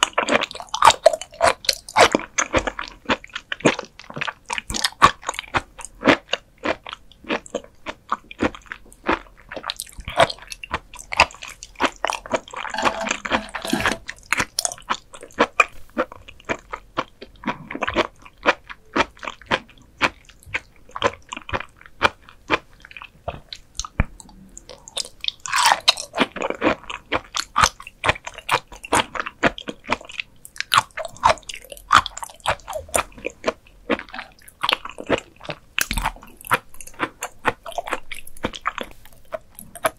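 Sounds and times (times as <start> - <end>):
biting and chewing clicks: 0.0 - 39.9.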